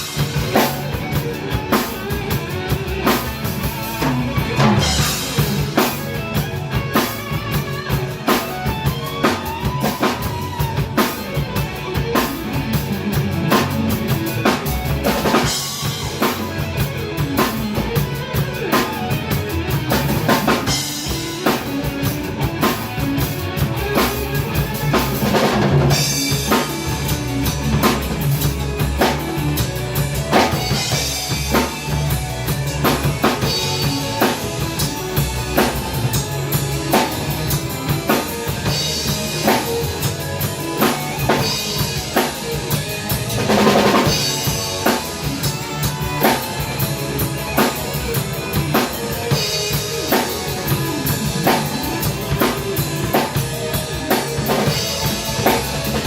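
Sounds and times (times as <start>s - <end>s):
drum kit playing: 0.0s - 56.0s
rock music: 0.0s - 56.0s.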